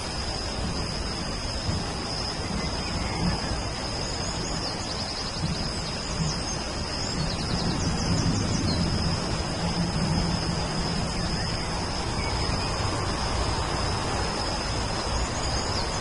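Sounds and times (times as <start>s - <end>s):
high insect trill: 0.0s - 16.0s
steady rain: 0.0s - 16.0s.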